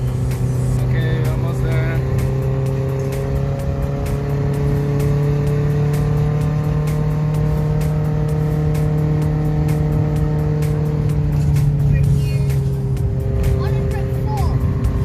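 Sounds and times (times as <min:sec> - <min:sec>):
van engine droning: 0:00.0 - 0:15.0.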